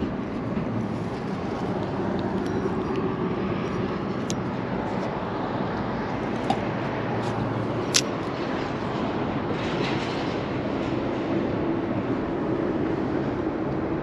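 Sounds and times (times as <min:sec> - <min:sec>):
road traffic rumbling: 0:00.0 - 0:14.0.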